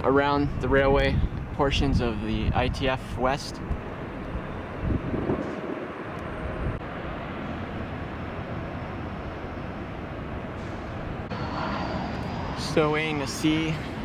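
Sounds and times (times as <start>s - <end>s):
rumble of vehicle traffic: 0.0s - 14.0s.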